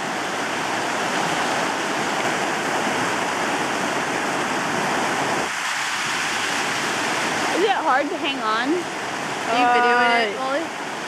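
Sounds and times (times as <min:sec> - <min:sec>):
fast river rushing: 0:00.0 - 0:11.0.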